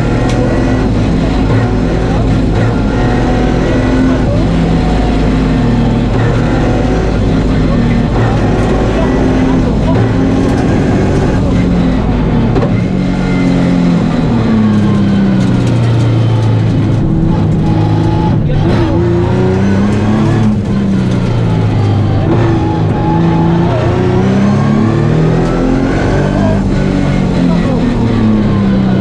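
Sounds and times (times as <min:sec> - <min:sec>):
car engine revving in cabin: 0:00.0 - 0:29.0.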